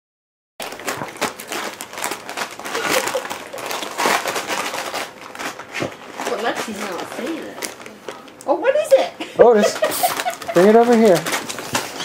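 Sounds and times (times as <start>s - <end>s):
wrapping paper crinkling: 0.6s - 8.4s, 9.4s - 12.0s.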